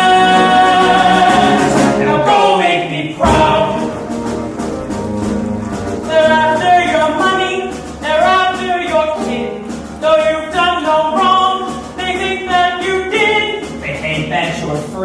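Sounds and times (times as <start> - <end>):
people singing with accompaniment: 0.0 - 14.5.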